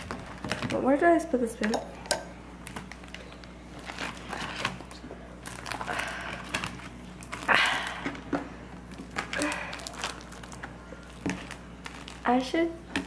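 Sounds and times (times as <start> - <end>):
slime crackling and squishing: 0.0 - 1.3, 2.6 - 13.0.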